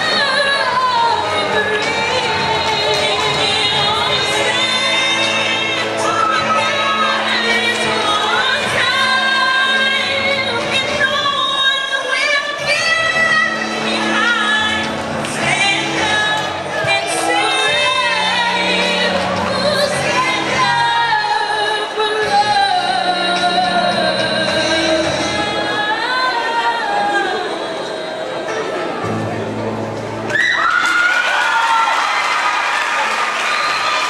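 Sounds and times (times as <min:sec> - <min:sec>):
female singers singing: 0:00.0 - 0:28.5.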